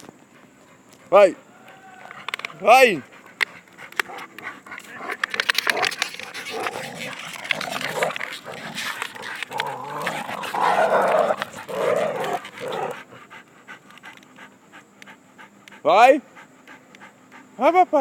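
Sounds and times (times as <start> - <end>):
dogs growling: 0.5 - 18.0.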